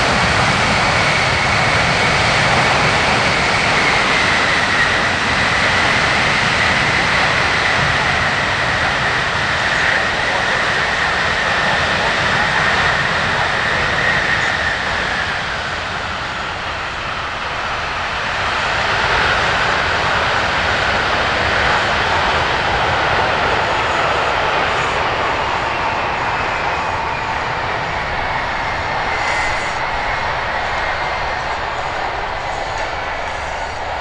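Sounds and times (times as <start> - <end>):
jet engines roaring with whine: 0.0 - 34.0.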